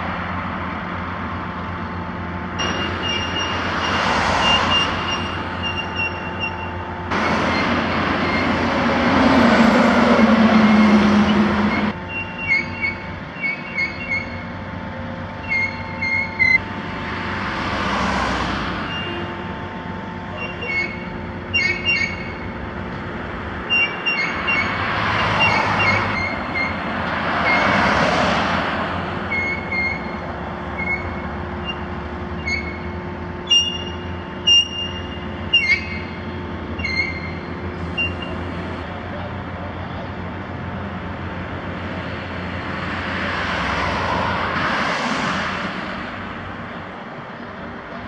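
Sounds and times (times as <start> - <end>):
cars passing: 0.0 - 48.0.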